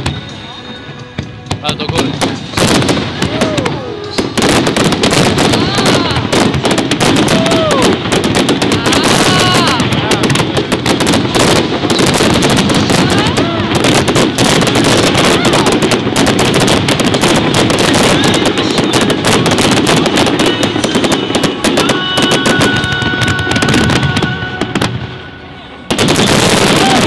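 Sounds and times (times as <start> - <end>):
fireworks bursting and crackling: 0.0 - 27.0.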